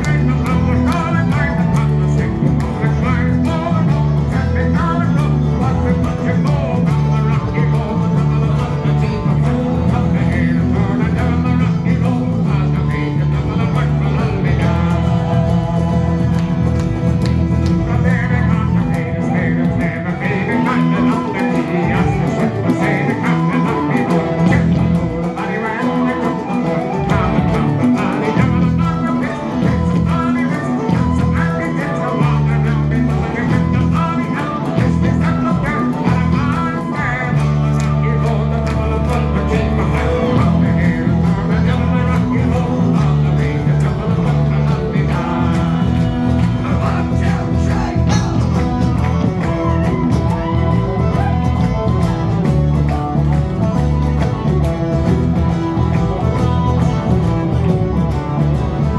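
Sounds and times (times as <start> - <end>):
folk band playing: 0.0 - 58.9.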